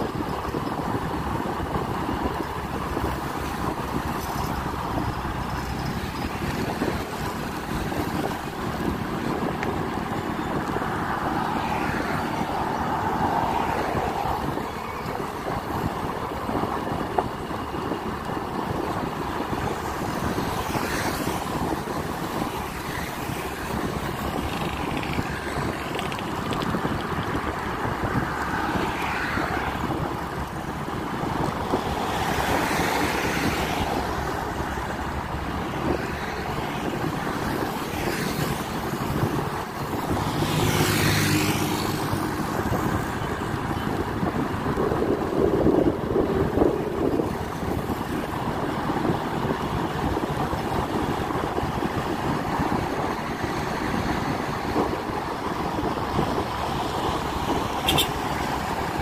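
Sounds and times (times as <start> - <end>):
vehicle road noise: 0.0 - 59.0
wind across microphone: 0.0 - 59.0.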